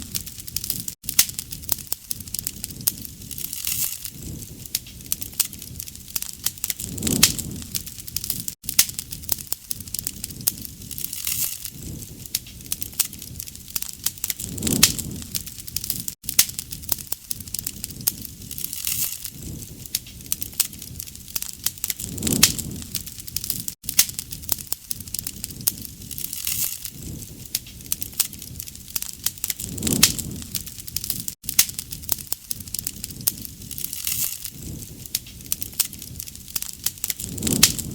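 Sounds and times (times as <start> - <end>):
soft rush of flame: 0.0 - 37.9
wood fire crackling and popping: 0.0 - 37.9.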